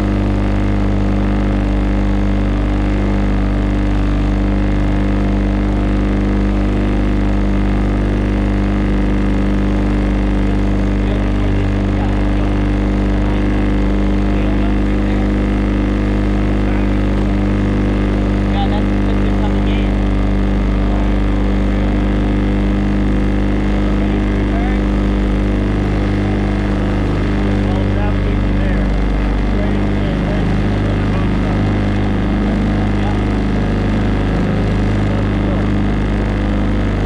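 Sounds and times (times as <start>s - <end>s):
motorboat engine running: 0.0s - 37.0s.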